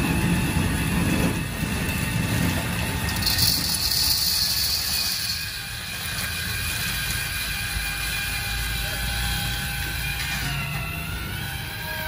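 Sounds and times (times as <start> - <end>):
kernels hissing and rattling in oil: 0.0 - 10.5
popcorn machine rumble and hum: 0.0 - 12.0.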